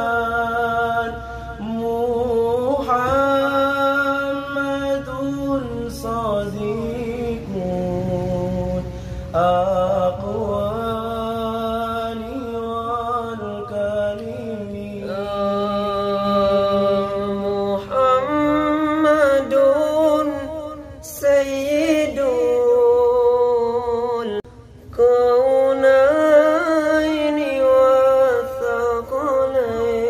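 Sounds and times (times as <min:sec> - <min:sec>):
young male voices singing: 0:00.0 - 0:30.0.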